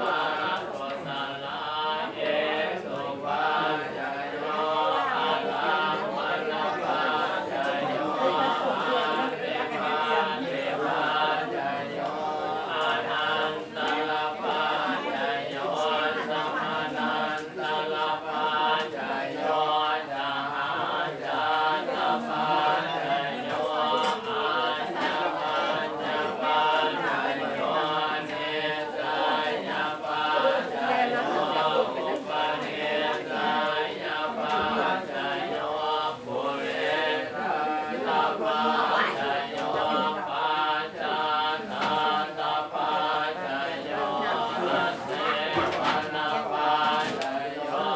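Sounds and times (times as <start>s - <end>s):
group chanting in unison: 0.0s - 47.9s.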